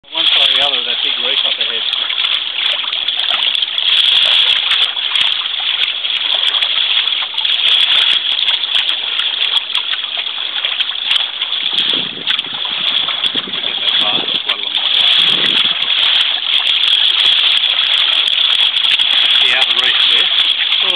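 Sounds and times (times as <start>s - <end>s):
water rushing along a hull: 0.0s - 20.9s.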